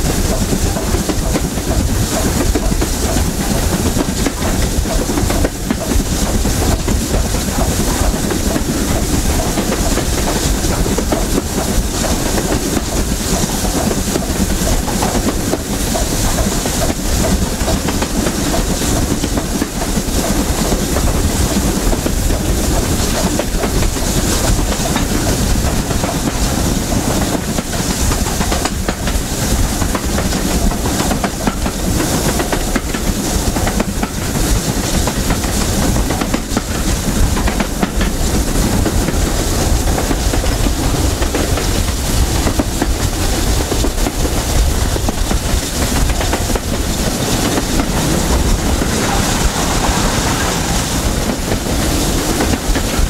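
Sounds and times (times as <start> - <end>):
coach wheels clattering on rails: 0.0 - 53.0
steam hissing: 0.0 - 53.0.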